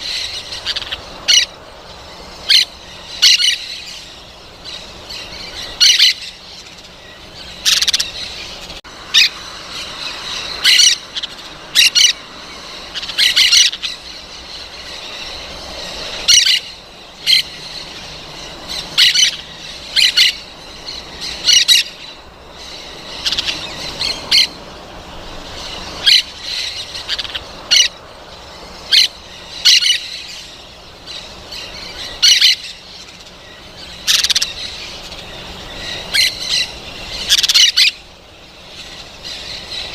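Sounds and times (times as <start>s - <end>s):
background bird chatter: 0.0s - 39.9s
parrots squawking: 0.0s - 39.9s.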